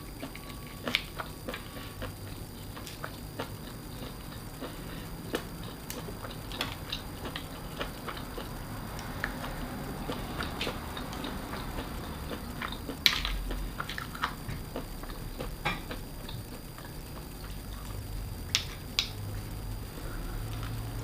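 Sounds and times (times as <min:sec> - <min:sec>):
chewing with small clicks: 0:00.0 - 0:21.0.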